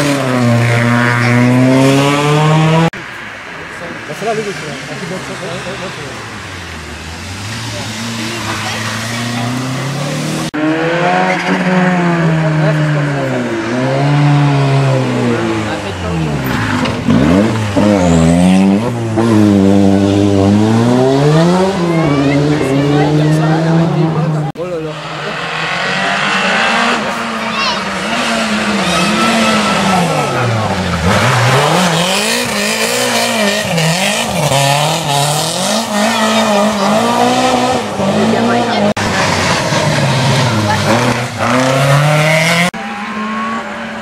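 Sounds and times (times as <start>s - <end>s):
rally car engine revving: 0.0s - 3.0s, 4.1s - 44.0s.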